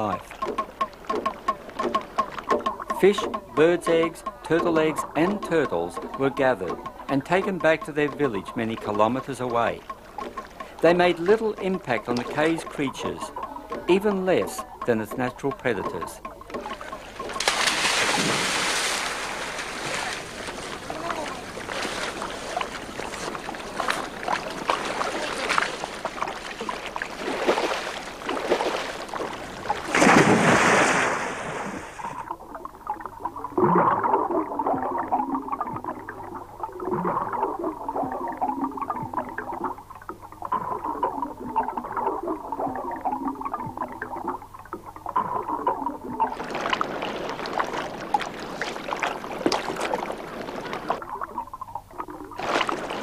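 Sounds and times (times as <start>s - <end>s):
surf and splashing water: 0.0s - 53.0s.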